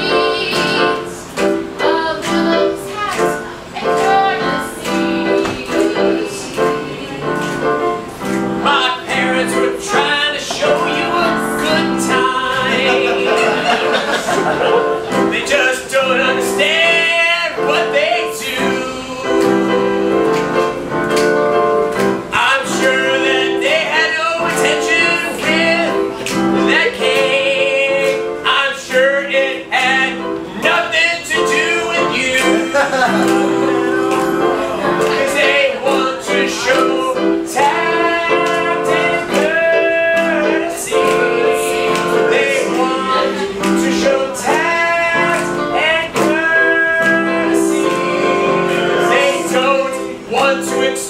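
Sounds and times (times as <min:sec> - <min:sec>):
person singing with vibrato: 0:00.0 - 0:21.6, 0:22.2 - 0:51.0
instrumental chords: 0:00.0 - 0:51.0.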